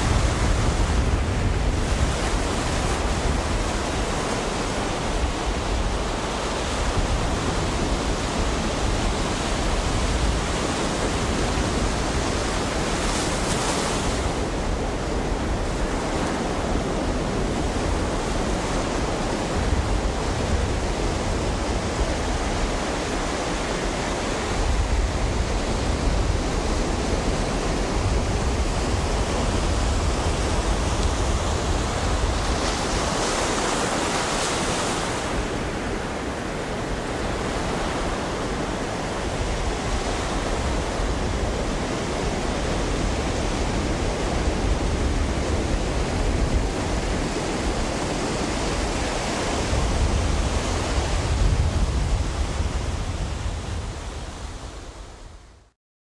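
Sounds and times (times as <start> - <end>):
deep surf rumble: 0.0 - 55.4
ocean surf rushing: 0.0 - 55.4.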